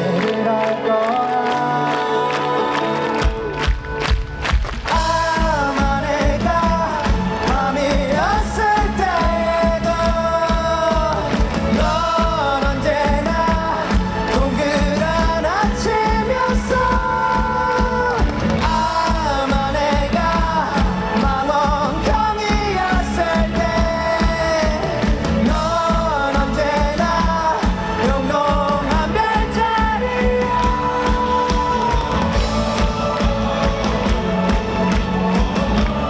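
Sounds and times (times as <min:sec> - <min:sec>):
man singing: 0:00.0 - 0:03.6, 0:04.9 - 0:36.0
electric guitar: 0:00.0 - 0:36.0
drum kit beat: 0:04.1 - 0:36.0.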